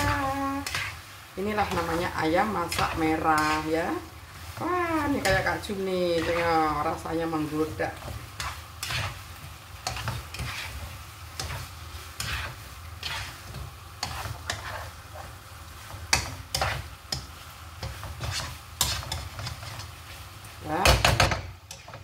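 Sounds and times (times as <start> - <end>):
sauce sizzling faintly: 0.0 - 22.0
spatula scraping wok: 0.0 - 22.0.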